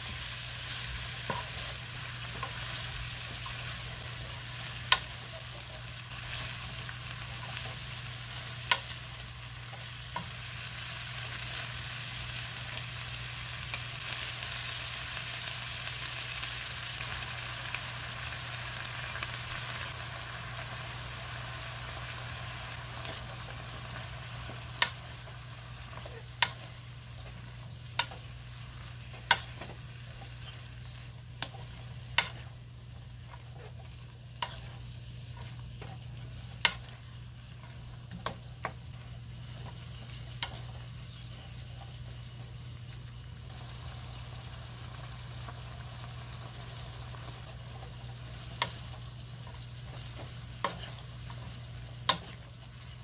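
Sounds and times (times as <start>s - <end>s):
vegetables sizzling in a pan: 0.0s - 53.0s.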